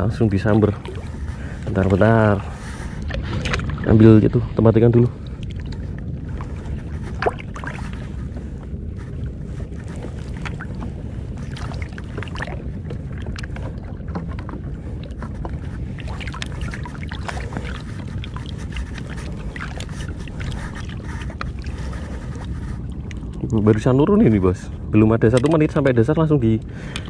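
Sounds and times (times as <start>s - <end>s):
sea water splashing: 0.0s - 27.0s
steady low rumble: 0.0s - 27.0s.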